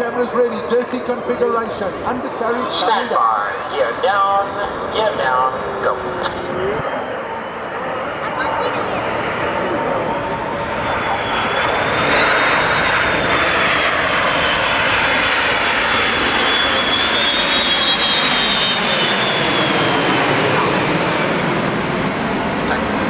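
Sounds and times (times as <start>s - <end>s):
high turbine whine: 0.0s - 23.0s
jet engine roar: 0.0s - 23.0s.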